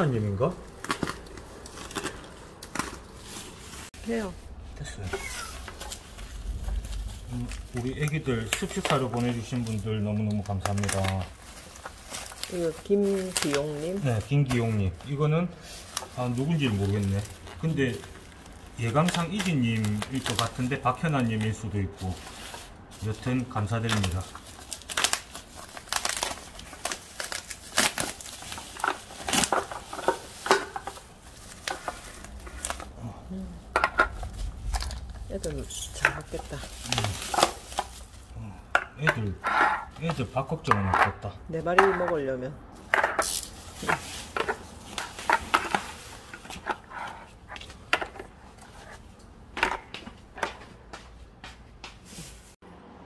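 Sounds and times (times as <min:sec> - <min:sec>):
plastic wrap crinkling: 0:00.0 - 0:49.1.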